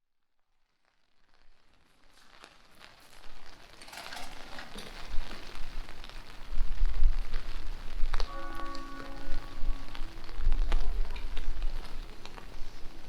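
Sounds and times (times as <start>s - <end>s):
rain pattering: 0.3s - 13.0s.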